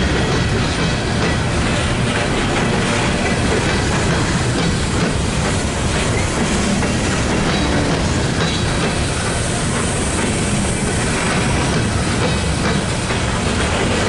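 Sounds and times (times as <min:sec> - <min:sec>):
freight train rolling past: 0:00.0 - 0:14.0
wheels clicking over rails: 0:00.0 - 0:14.0.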